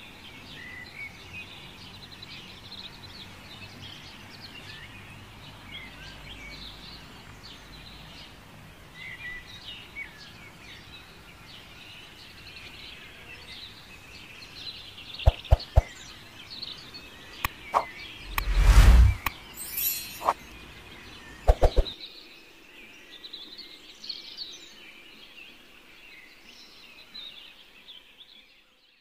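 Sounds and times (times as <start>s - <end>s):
small birds chirping: 0.2s - 28.8s.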